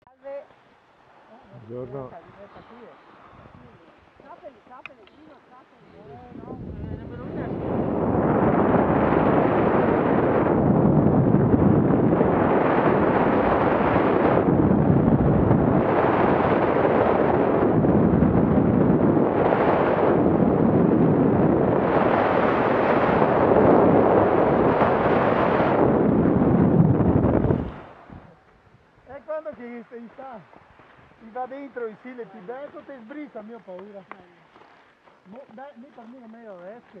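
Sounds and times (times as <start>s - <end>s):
wind buffeting microphone: 1.5s - 37.0s.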